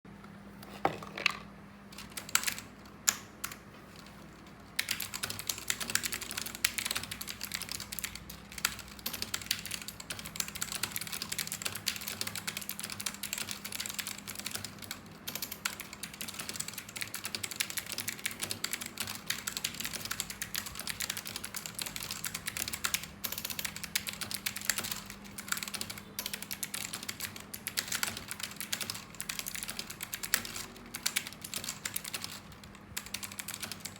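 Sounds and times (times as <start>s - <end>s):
computer keyboard typing: 1.9s - 33.9s.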